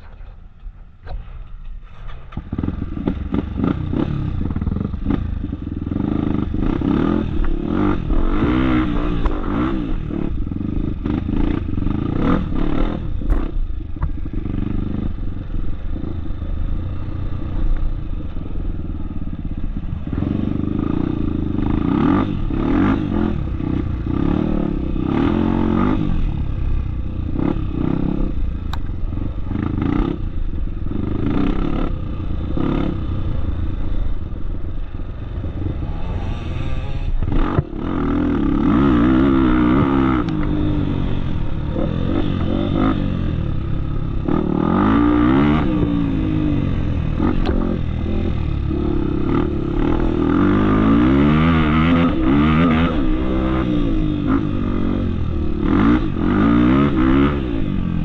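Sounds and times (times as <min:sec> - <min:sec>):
motorcycle engine revving: 0:01.4 - 0:58.0.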